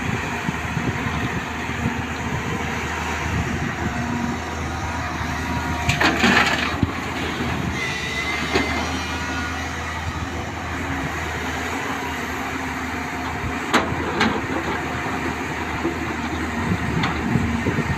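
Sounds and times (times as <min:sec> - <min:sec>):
excavator engine running: 0:00.0 - 0:17.9.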